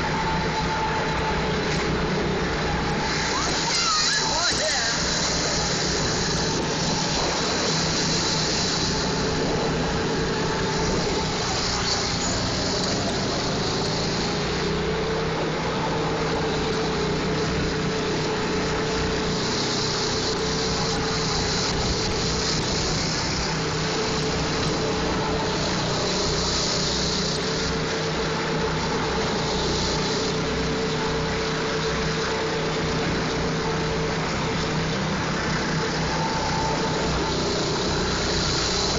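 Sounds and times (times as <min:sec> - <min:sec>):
go-kart engine running: 0:00.0 - 0:38.9
steady rushing noise: 0:00.0 - 0:38.9.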